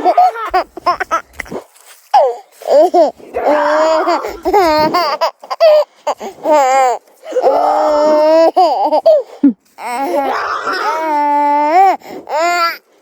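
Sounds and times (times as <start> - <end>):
young child laughing and squealing: 0.0 - 1.6, 2.2 - 5.8, 7.4 - 12.6.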